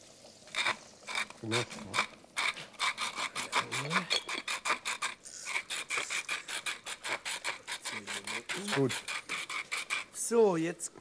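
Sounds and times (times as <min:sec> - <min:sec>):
pepper mill grinding: 0:00.5 - 0:10.3.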